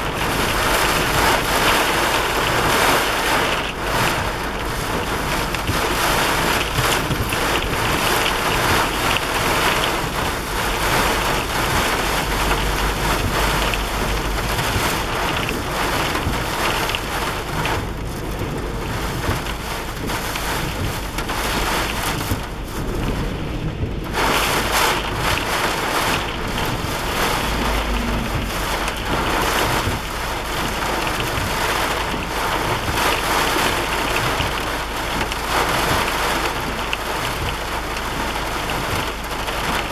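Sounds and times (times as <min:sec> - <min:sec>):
wind gusting over microphone: 0:00.0 - 0:37.6
rain falling: 0:00.0 - 0:39.9.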